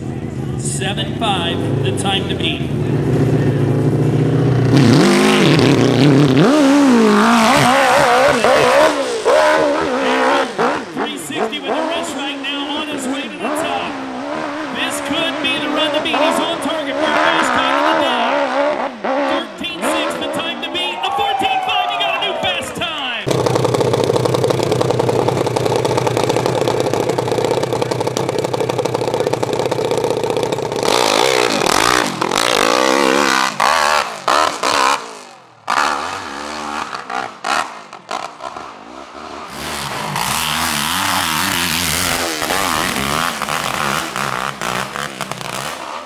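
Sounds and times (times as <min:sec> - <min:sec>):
motorcycle engine revving: 0:00.0 - 0:20.8, 0:23.2 - 0:46.0.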